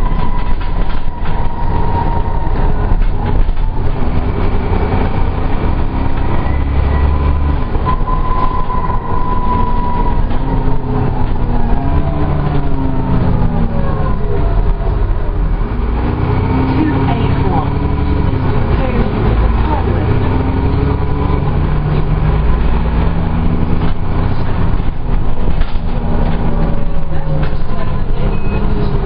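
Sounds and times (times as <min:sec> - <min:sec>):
bus diesel engine whining: 0:00.0 - 0:29.0.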